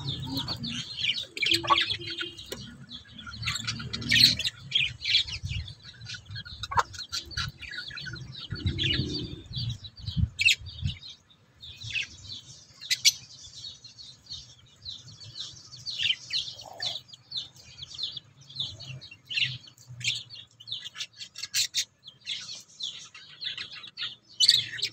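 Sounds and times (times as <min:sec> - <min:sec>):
bird chirping high calls: 0:00.0 - 0:24.9.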